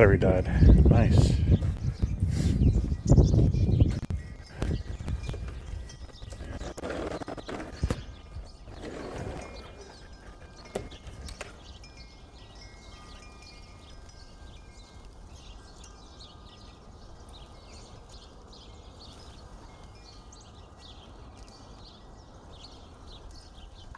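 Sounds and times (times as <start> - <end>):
small birds chirping: 0.0 - 23.9
wind chimes ringing: 0.0 - 23.9.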